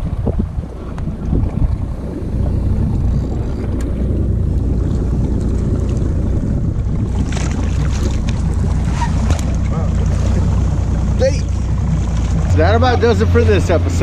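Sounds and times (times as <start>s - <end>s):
water washing against boat hull: 0.0s - 14.0s
wind buffeting microphone: 0.0s - 14.0s.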